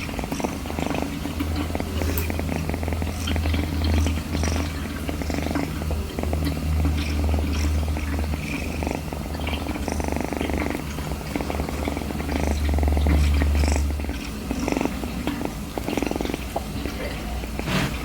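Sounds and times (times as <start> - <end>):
kitten purring: 0.0 - 18.0.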